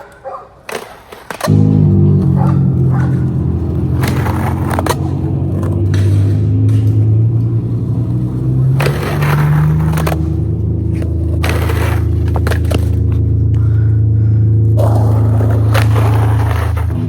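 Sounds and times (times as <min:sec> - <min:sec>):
skateboard clacking and grinding: 0:00.0 - 0:17.0
skateboard wheels rolling: 0:00.0 - 0:17.0.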